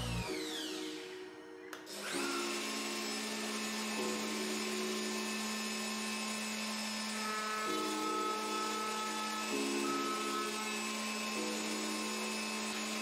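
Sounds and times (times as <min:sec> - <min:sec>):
router whining: 0:00.0 - 0:13.0.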